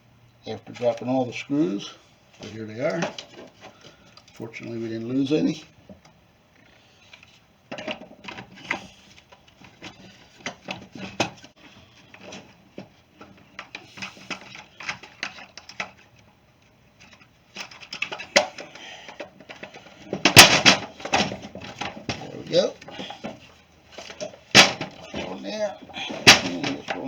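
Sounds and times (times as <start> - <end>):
plastic parts clicking and knocking: 2.8 - 4.4, 5.9 - 16.3, 16.9 - 27.0.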